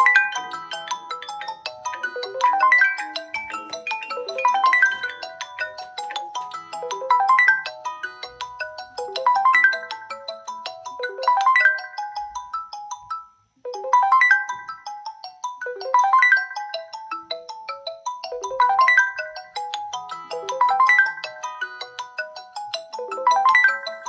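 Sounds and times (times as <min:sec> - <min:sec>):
phone ringtone melody: 0:00.0 - 0:13.1, 0:13.7 - 0:24.0.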